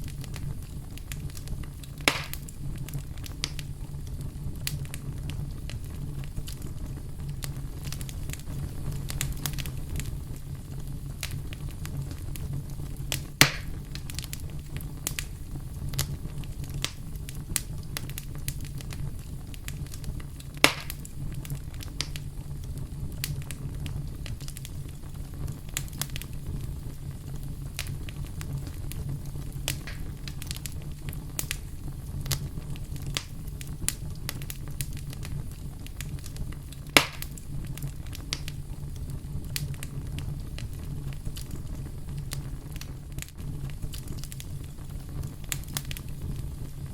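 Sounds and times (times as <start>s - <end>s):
campfire rumble: 0.0s - 46.9s
loud fire pops: 0.0s - 46.9s
wood crackling: 0.0s - 46.9s.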